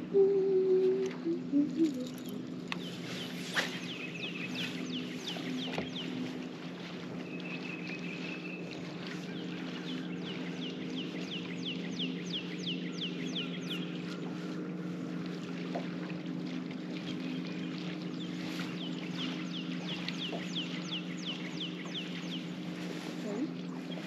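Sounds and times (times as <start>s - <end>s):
electric trolling motor humming: 0.0s - 24.0s.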